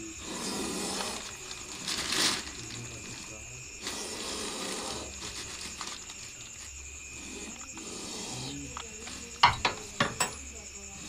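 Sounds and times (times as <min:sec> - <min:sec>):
snake hissing: 0:00.0 - 0:09.4.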